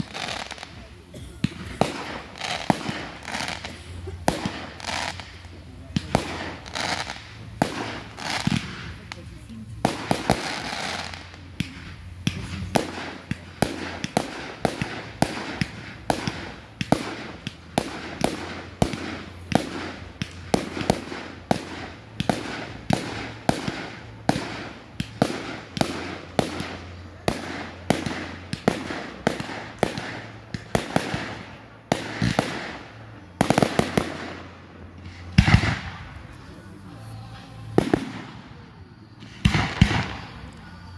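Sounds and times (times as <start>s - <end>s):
fireworks bangs: 0.0s - 40.9s.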